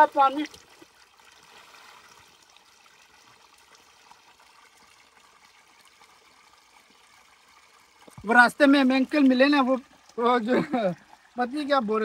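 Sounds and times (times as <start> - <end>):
water trickling into a pool: 0.0 - 12.0.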